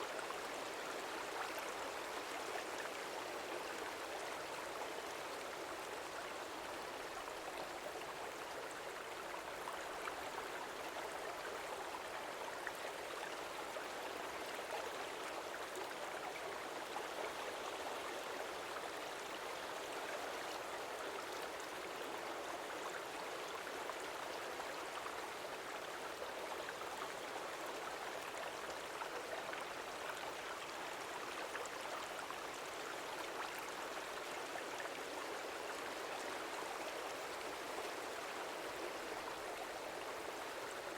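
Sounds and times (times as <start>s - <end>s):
small stream flowing: 0.0s - 40.9s.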